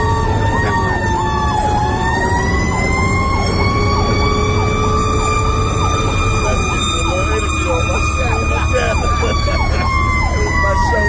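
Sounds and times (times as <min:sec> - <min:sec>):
fast yelping siren: 0:00.0 - 0:11.0
long siren tone: 0:00.0 - 0:11.0
truck engine running: 0:00.0 - 0:11.0.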